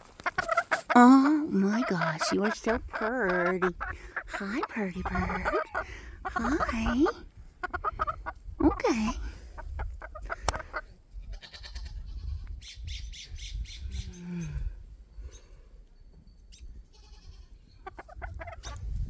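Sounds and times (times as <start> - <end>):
chickens squawking and clucking: 0.0 - 14.2, 17.0 - 19.0.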